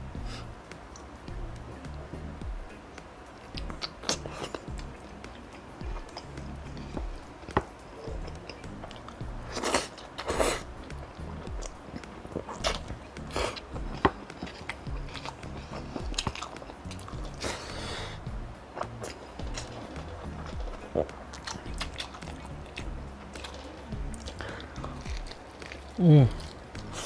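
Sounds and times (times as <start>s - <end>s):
faint background music: 0.0s - 27.0s
wet chewing and smacking: 3.4s - 27.0s.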